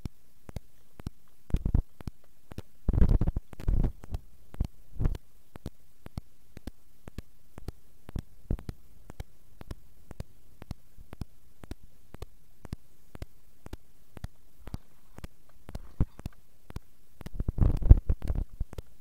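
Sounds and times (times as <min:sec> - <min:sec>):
low steady background noise: 0:00.0 - 0:19.0.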